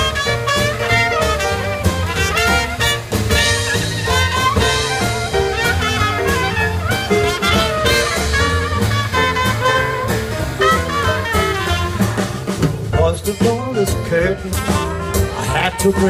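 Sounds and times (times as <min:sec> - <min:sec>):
jazz band playing swing: 0:00.0 - 0:16.0
trumpets playing melody: 0:00.0 - 0:16.0.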